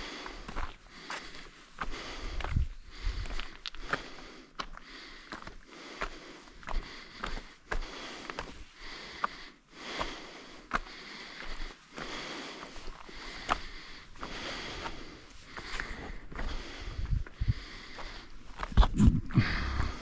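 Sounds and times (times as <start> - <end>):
footsteps on a trail: 0.0 - 20.0
person breathing: 0.0 - 20.0.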